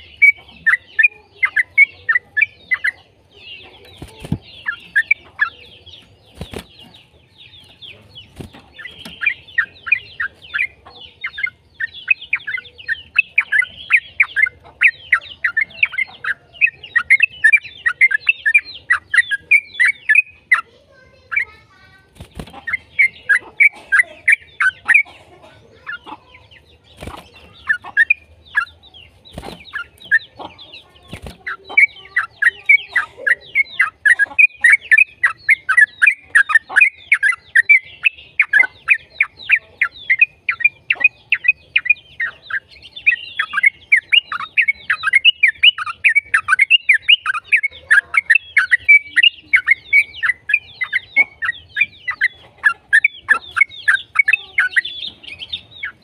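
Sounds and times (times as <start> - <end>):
bird singing chattering phrases: 0.0 - 56.0.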